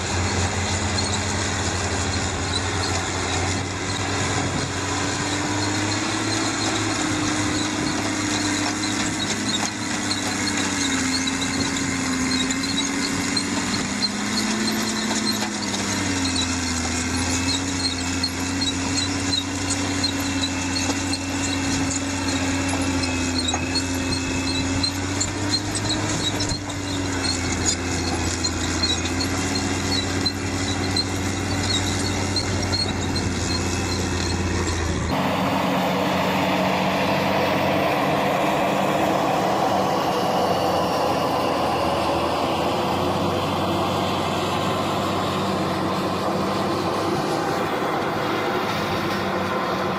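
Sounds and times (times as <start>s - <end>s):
high squeaking: 0.0s - 49.2s
heavy machine engine running: 0.0s - 49.9s.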